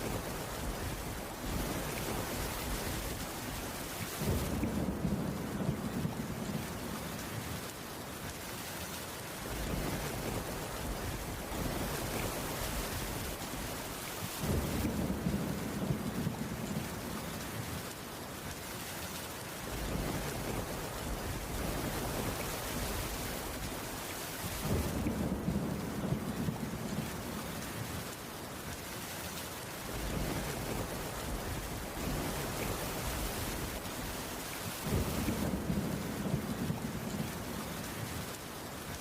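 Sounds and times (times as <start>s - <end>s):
heavy rain on roof: 0.0s - 39.0s.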